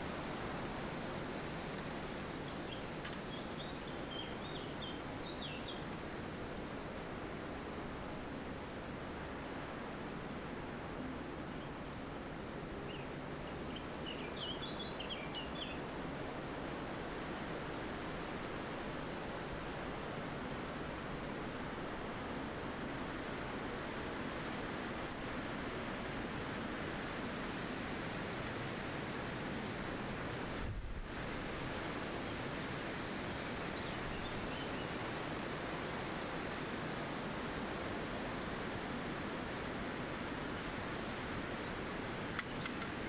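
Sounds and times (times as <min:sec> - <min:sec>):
wind rushing through trees: 0:00.0 - 0:43.0.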